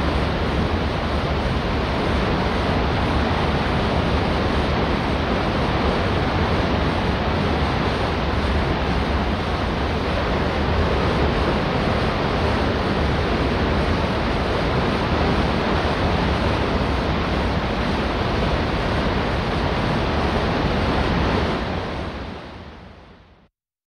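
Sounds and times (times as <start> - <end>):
water rushing: 0.0 - 22.7
wind: 0.0 - 23.5.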